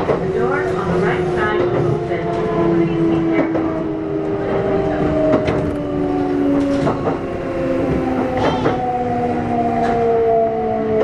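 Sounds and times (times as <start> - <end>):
electric train inverter whining: 0.0 - 11.0.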